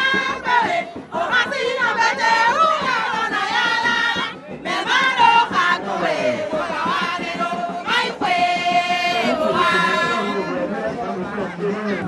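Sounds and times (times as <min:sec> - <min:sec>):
crowd singing and chanting: 0:00.0 - 0:12.0.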